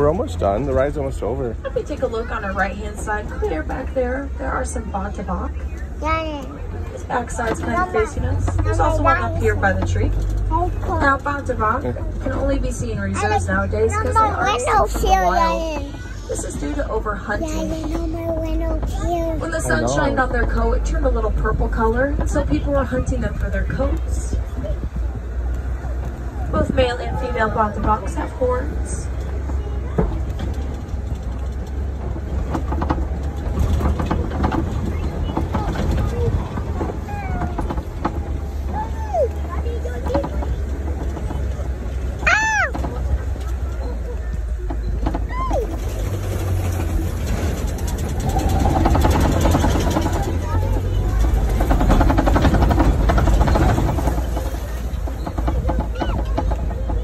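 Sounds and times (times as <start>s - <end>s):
truck engine rumbling: 0.0s - 57.0s
vehicle rattles and knocks: 0.0s - 57.0s.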